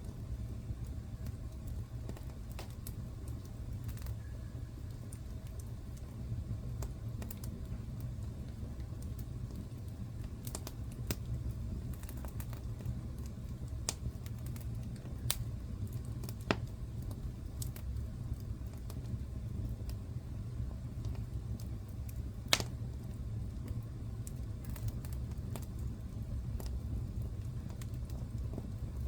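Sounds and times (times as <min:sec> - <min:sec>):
low fire rumble: 0:00.0 - 0:29.0
wood fire crackling and popping: 0:00.0 - 0:29.0.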